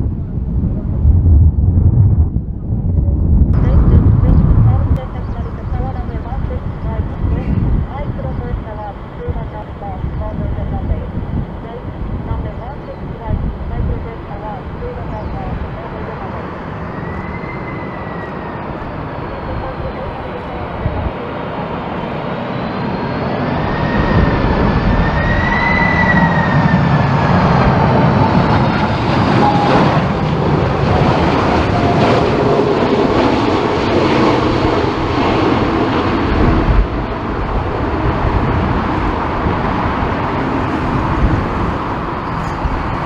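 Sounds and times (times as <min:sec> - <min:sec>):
jet engine roar: 0:00.0 - 0:43.0
jet engine whine: 0:00.0 - 0:43.0
wind rumble on microphone: 0:00.0 - 0:43.0.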